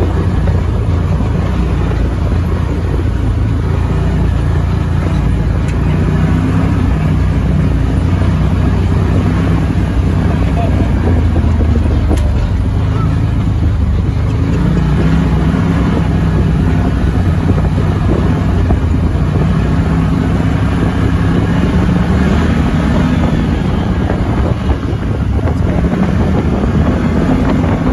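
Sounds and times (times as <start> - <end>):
atv engine running: 0.0 - 27.9
wind buffeting microphone: 0.0 - 27.9.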